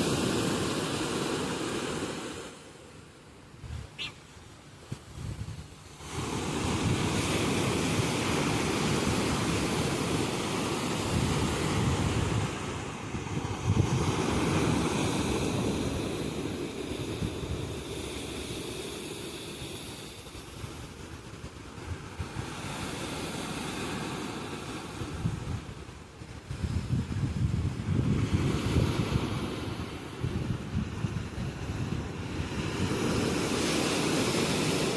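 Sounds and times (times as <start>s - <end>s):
waves breaking on shore: 0.0s - 34.9s.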